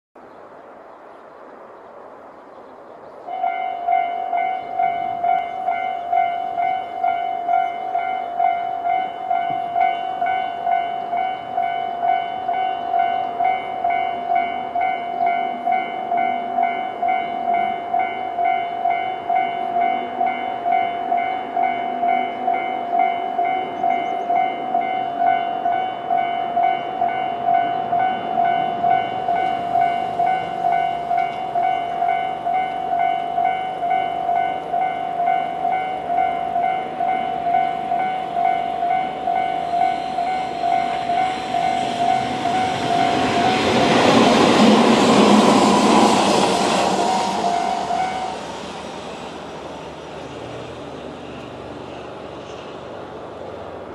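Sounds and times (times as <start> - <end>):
electric train rumbling: 3.2 - 53.9
level crossing warning bell: 3.3 - 45.1, 46.8 - 48.4.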